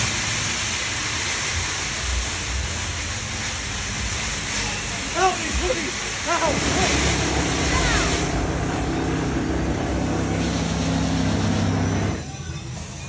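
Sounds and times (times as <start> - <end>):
machine rumble and hiss: 0.0 - 13.0.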